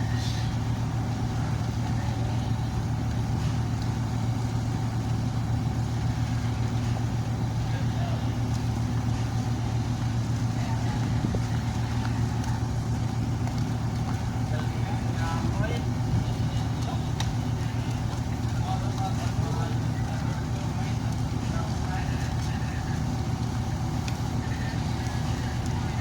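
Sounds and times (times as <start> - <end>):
ship diesel engine droning: 0.0 - 26.0.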